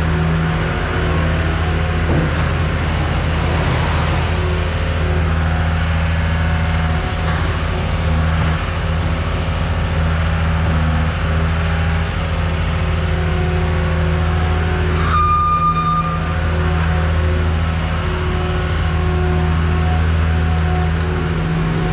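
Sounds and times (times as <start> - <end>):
diesel engine droning: 0.0 - 21.9.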